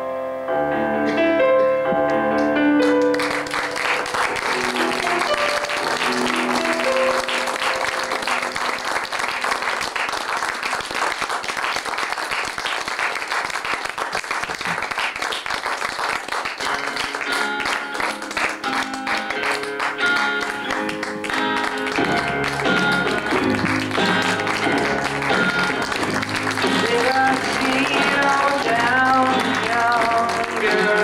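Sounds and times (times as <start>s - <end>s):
piano music: 0.0s - 10.9s, 16.6s - 31.0s
audience applauding: 2.8s - 31.0s.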